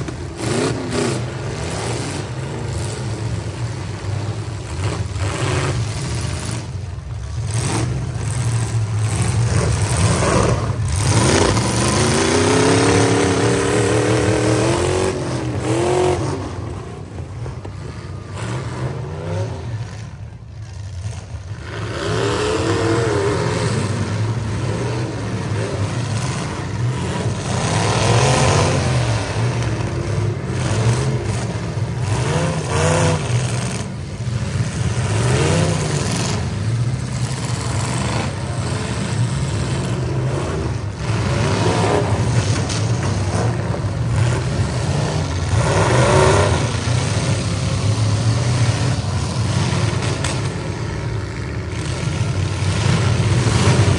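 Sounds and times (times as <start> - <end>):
truck engines revving hard: 0.0 - 53.9.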